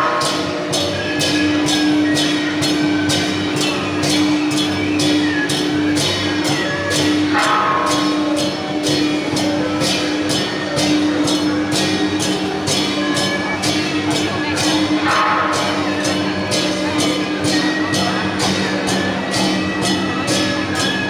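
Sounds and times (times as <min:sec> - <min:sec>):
cymbals crashing: 0:00.0 - 0:21.0.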